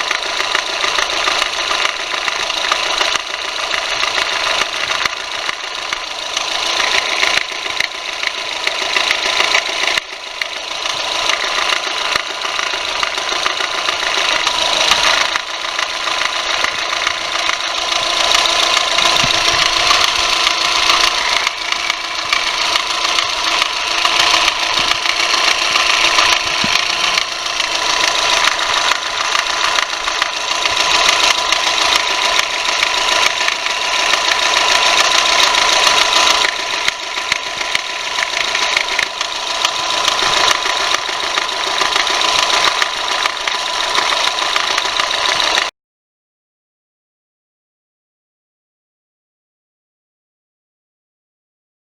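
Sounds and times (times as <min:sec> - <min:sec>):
car engine running with mechanical noise: 0:00.0 - 0:45.7.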